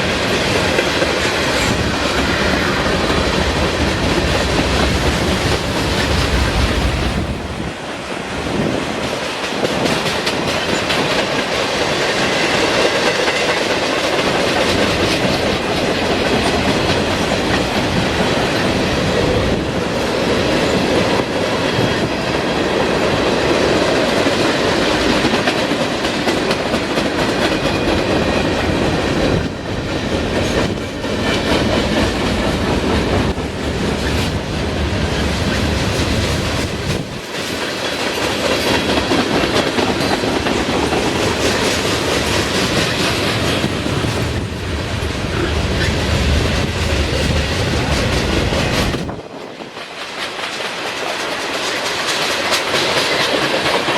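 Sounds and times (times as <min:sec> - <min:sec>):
freight train wheels clacking: 0:00.0 - 0:53.9.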